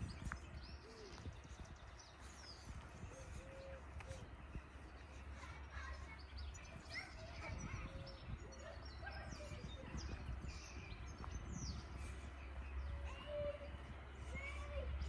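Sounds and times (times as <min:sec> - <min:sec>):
birds chirping and whistling: 0:00.0 - 0:15.0
steady low rumble: 0:00.0 - 0:15.0.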